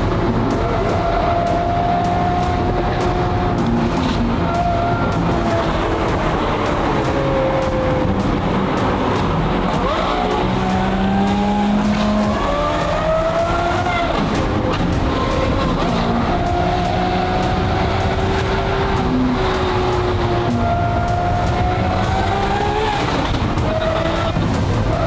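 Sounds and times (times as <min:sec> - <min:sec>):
road and tyre noise: 0:00.0 - 0:25.0
sports car engine running: 0:00.0 - 0:25.0.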